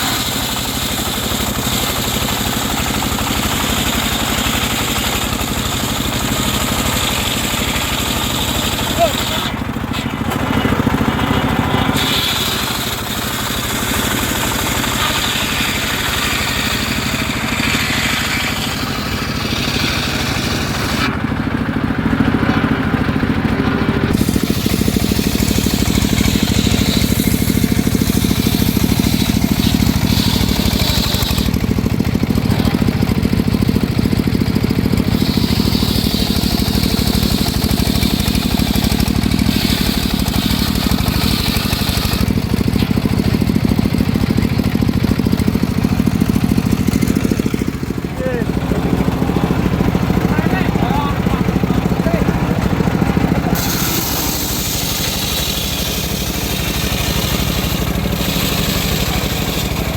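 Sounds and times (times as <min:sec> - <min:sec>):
circular sawmill sawing wood: 0:00.0 - 0:59.9.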